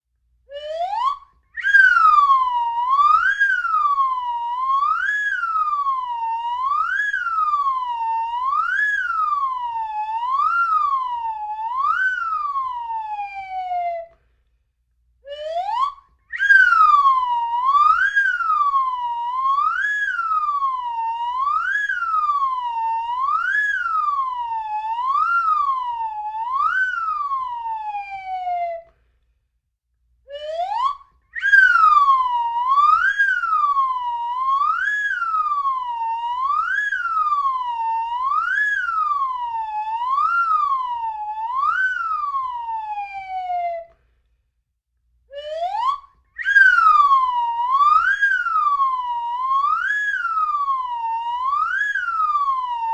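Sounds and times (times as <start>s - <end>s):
slide whistle swooping: 0.5s - 13.4s, 15.3s - 28.0s, 30.3s - 42.9s, 45.3s - 52.9s.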